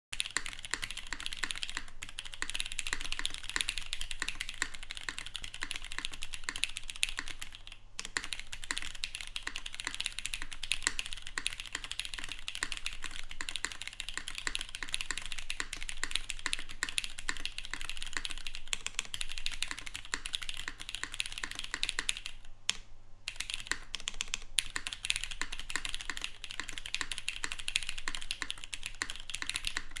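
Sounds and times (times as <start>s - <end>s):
mechanical keyboard typing: 0.2s - 30.0s.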